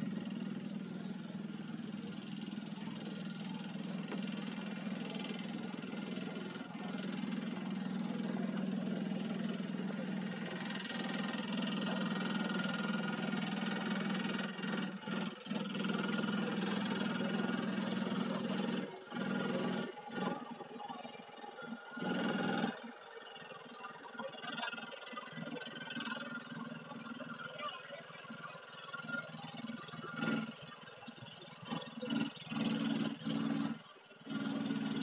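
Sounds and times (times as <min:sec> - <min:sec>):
engine droning: 0:00.0 - 0:35.0.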